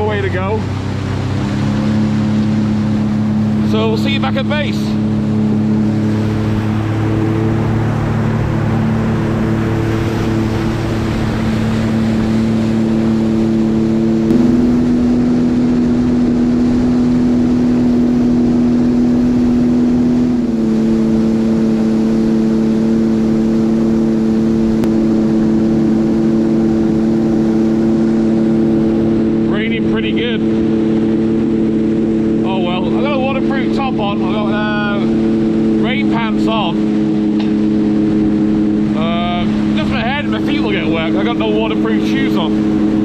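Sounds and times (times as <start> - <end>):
personal watercraft engine cruising: 0.0 - 43.0
water rushing along hull: 0.0 - 43.0.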